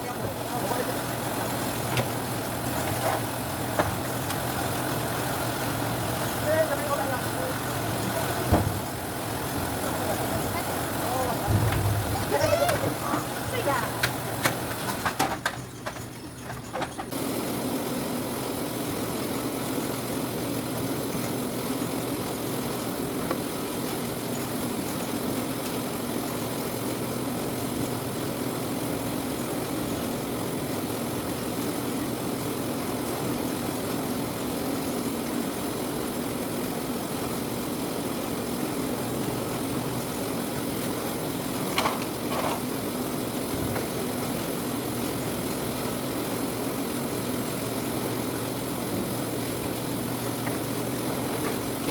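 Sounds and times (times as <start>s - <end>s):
sorting machine droning: 0.0s - 51.9s.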